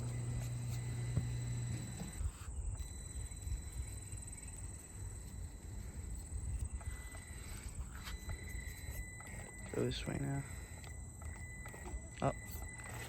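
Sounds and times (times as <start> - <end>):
rc truck motor whine: 0.0 - 13.0.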